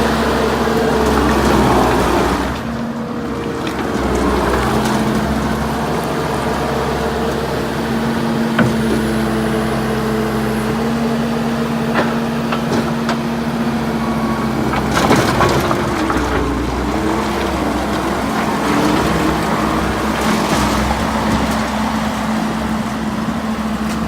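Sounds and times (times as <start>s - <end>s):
skid steer diesel engine: 0.0s - 24.0s
wood cracking and splintering: 0.4s - 7.6s, 10.4s - 24.0s.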